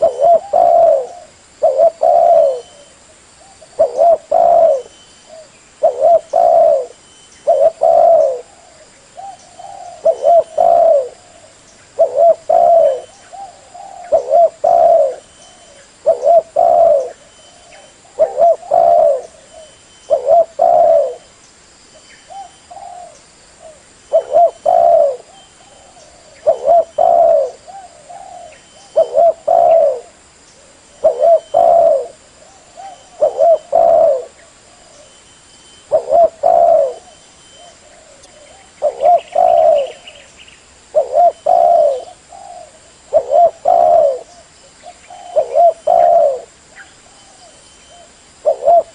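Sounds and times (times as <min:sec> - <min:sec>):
dove cooing: 0:00.0 - 0:21.3, 0:22.3 - 0:35.2, 0:35.8 - 0:40.3, 0:40.9 - 0:48.9.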